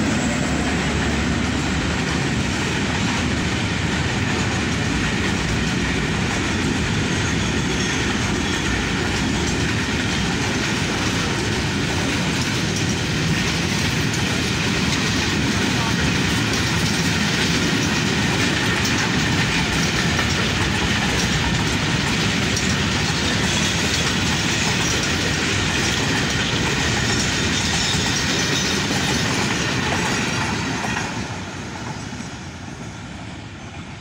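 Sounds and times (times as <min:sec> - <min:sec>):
train wagons rolling on rails: 0:00.0 - 0:34.0
wheels clicking over rail joints: 0:00.7 - 0:32.2.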